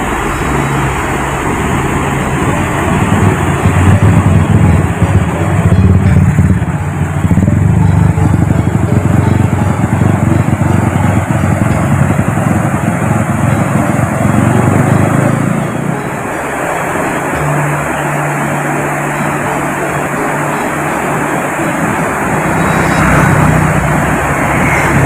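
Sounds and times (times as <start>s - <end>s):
flooded river rushing over weir: 0.0s - 25.0s.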